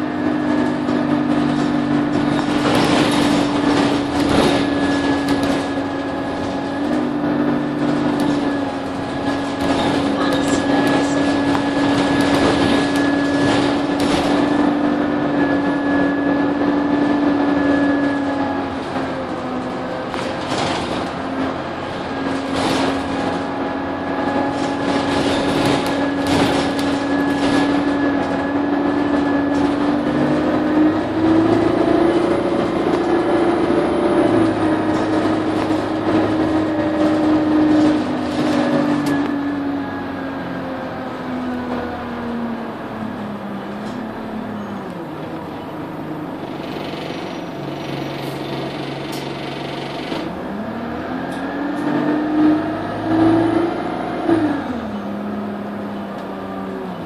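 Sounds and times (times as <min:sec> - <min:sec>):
bus engine drone with whine: 0:00.0 - 0:57.0
rattles and knocks of bus body: 0:00.0 - 0:57.0.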